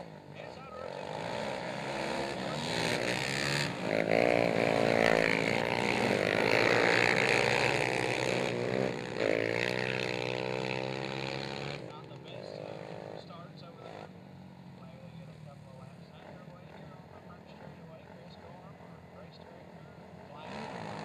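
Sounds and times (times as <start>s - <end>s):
quad engines at full throttle: 0.0s - 21.0s.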